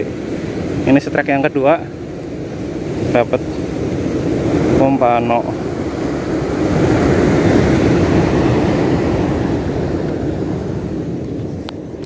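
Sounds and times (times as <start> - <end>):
surf on beach: 0.0 - 12.0
wind on microphone: 0.0 - 12.0.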